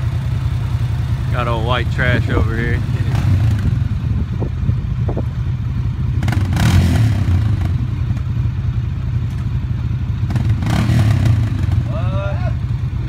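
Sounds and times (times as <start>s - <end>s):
atv engine idling: 0.0s - 13.0s
engine clatter: 0.0s - 13.0s.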